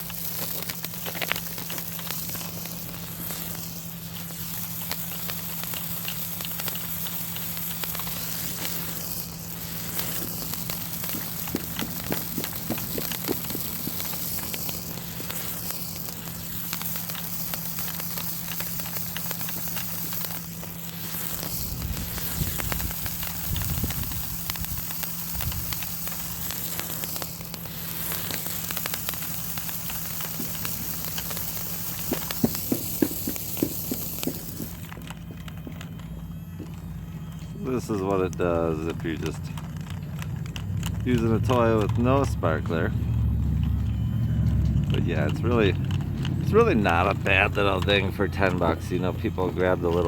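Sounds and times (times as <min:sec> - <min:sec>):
sparkler pops: 0:00.0 - 0:50.0
sparkler sizzling and crackling: 0:00.0 - 0:50.0.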